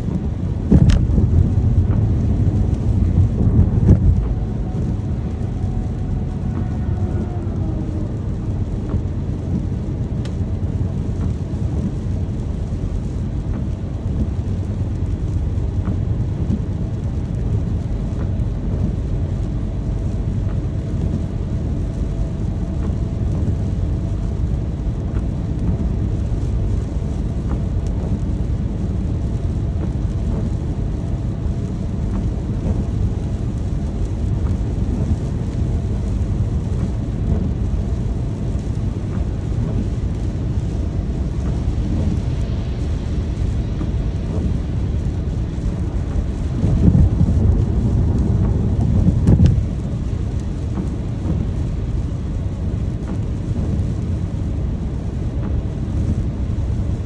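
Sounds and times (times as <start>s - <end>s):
deep low rumble: 0.0s - 57.0s
steady rain: 0.0s - 57.0s.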